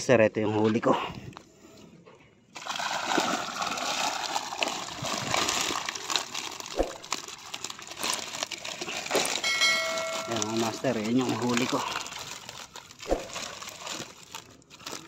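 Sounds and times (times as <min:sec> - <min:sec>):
water splashing and sloshing: 0:02.5 - 0:15.0.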